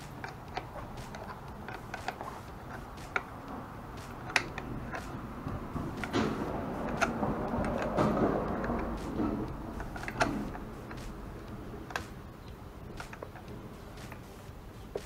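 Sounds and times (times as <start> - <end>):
wrench clicking on metal bolt: 0.0 - 3.3, 4.0 - 14.3.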